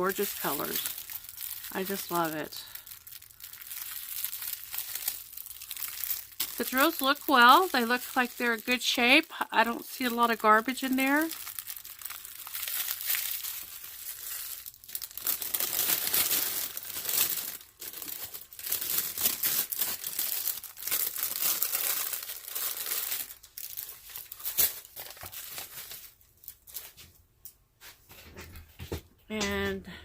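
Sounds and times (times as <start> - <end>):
plastic packaging crinkling: 0.0 - 27.1.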